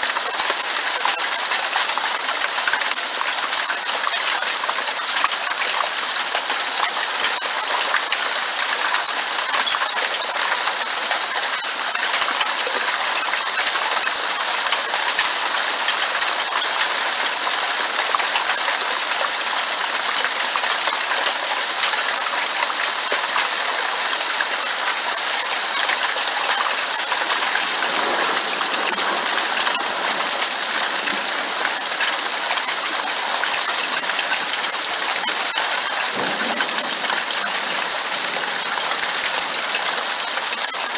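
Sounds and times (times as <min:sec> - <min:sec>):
hailstones clattering: 0:00.0 - 0:40.9
rain hiss: 0:00.0 - 0:40.9.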